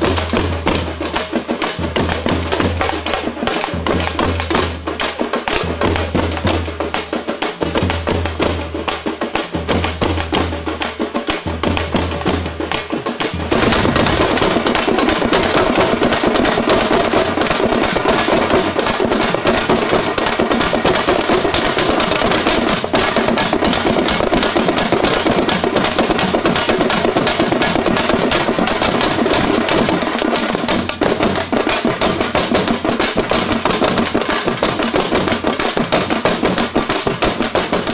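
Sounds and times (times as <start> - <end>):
frame drums and barrel drums: 0.0 - 37.9.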